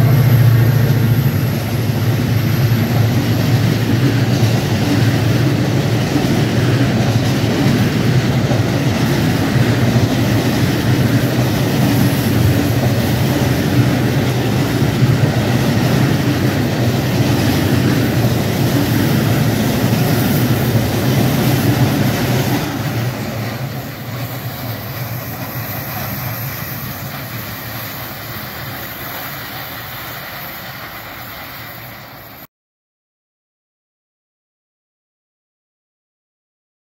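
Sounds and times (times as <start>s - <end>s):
train rumbling past: 0.0s - 32.5s.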